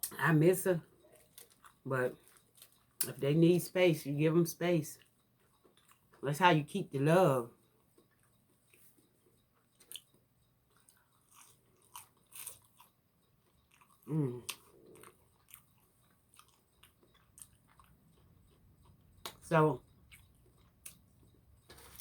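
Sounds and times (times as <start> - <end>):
chewing and crunching fried food: 0.0 - 22.0.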